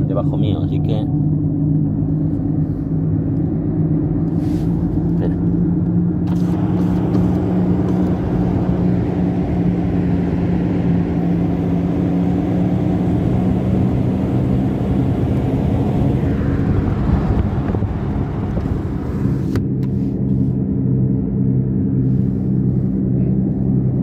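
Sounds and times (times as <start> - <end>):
road noise inside car: 0.0 - 24.0
wheel bearing hum: 1.1 - 20.6.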